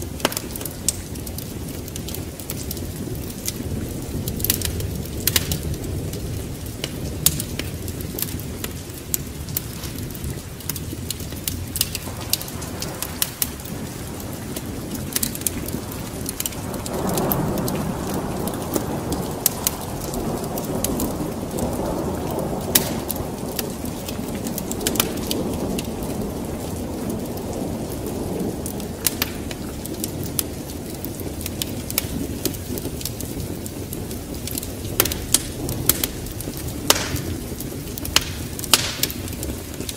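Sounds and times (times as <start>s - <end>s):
rolling thunder: 0.0s - 39.9s
steady rain: 0.0s - 39.9s
wood fire crackling and popping: 0.0s - 39.9s.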